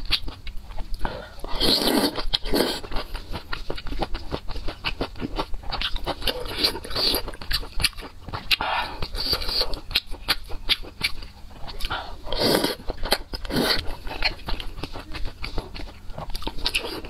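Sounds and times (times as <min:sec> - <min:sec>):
wet chewing and mouth smacks: 0:00.0 - 0:17.0.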